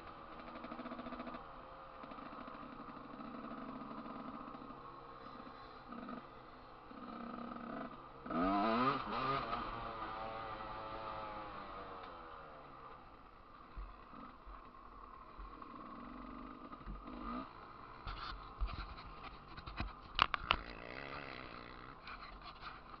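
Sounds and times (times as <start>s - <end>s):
motorbike engine running: 0.0s - 23.0s.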